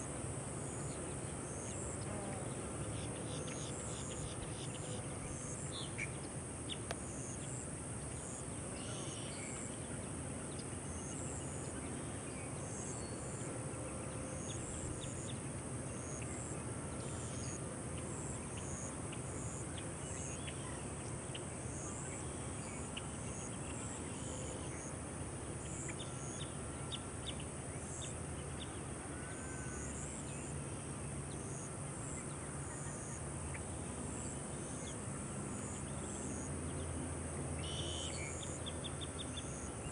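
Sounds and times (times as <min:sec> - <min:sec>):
background hiss: 0:00.0 - 0:39.9
insect chirps: 0:00.0 - 0:39.9.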